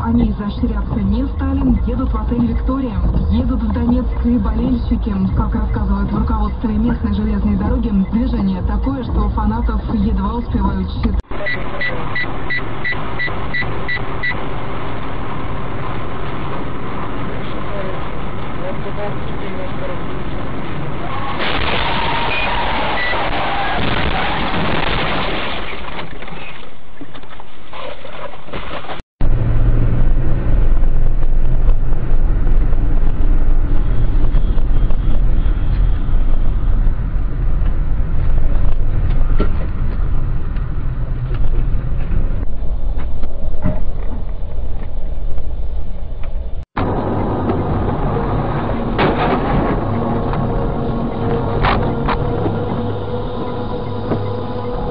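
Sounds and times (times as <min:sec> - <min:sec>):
road and engine noise in car: 0:00.0 - 0:21.4, 0:29.2 - 0:54.9.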